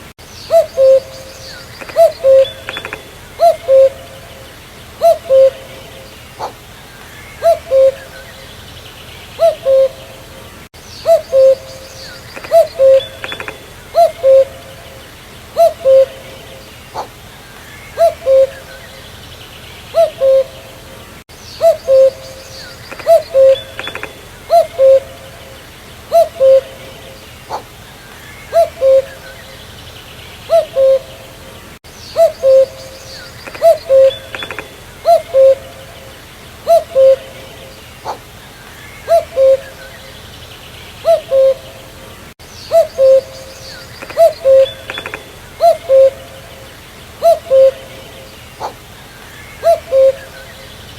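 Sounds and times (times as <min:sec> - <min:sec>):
faint bird chirps: 0:00.2 - 0:20.8, 0:21.4 - 0:31.3, 0:31.9 - 0:41.8, 0:42.4 - 0:50.9.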